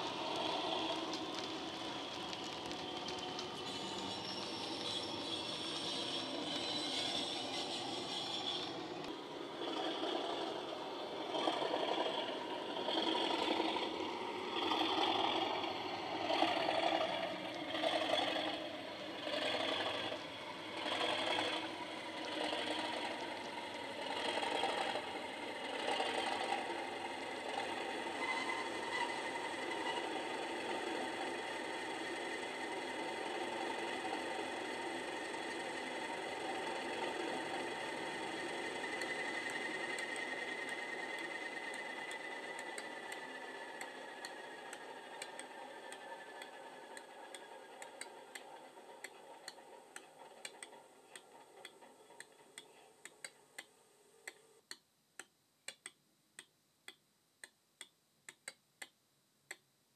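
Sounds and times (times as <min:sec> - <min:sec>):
model locomotive diesel engine sound: 0:00.0 - 0:54.8.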